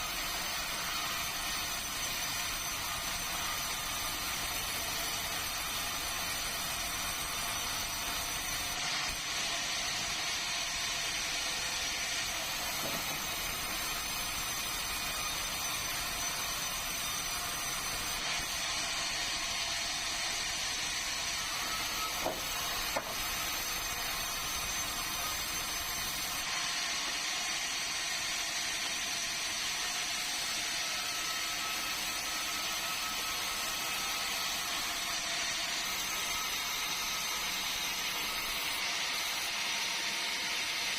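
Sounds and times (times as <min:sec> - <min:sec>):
sawmill machinery hissing: 0:00.0 - 0:40.9.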